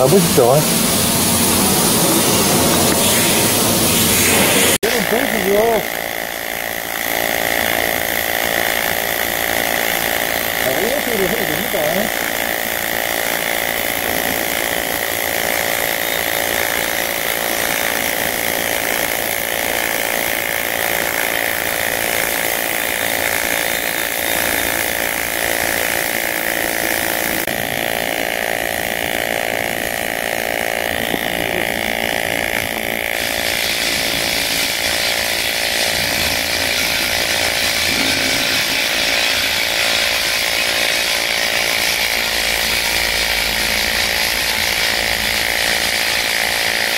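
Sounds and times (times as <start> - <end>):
welding arc buzzing: 0.0 - 46.9.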